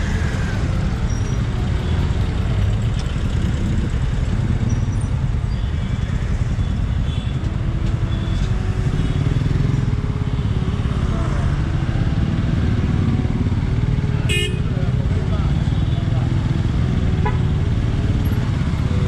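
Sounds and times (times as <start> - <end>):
motorcycle engine rumbling: 0.0 - 19.0
traffic engines: 0.0 - 19.0.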